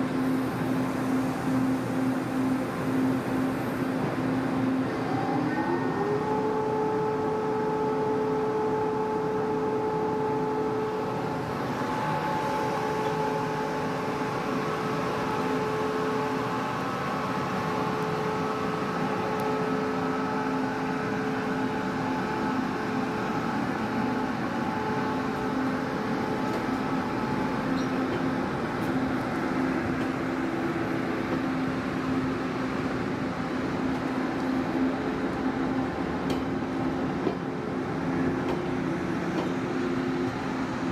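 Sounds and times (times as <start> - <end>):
electric locomotive whine: 0.0 - 40.9
wheel and rail noise: 0.0 - 40.9.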